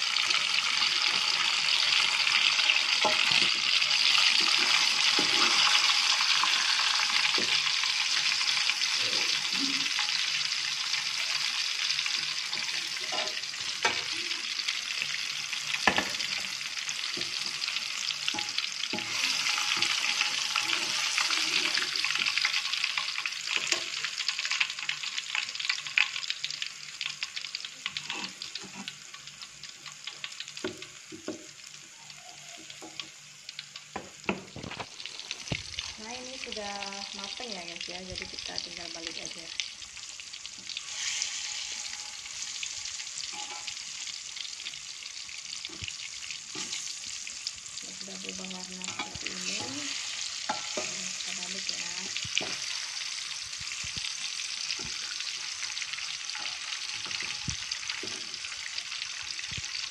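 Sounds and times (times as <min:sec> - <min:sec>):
bananas sizzling in hot oil: 0:00.0 - 0:59.9.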